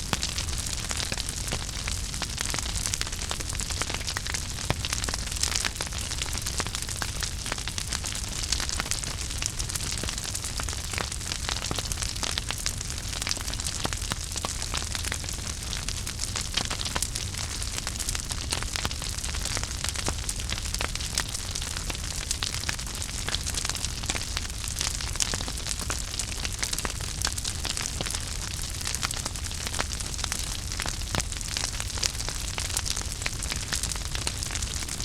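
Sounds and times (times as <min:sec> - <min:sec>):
fire crackles and pops: 0:00.0 - 0:35.0
wood fire hissing and rumbling: 0:00.0 - 0:35.0.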